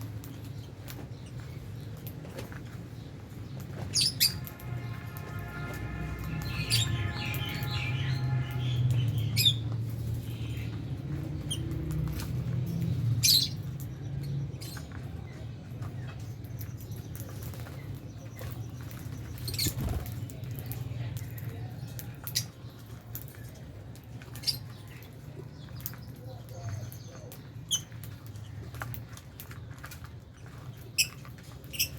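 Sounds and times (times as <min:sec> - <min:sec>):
lovebirds chirping: 0:00.0 - 0:31.9.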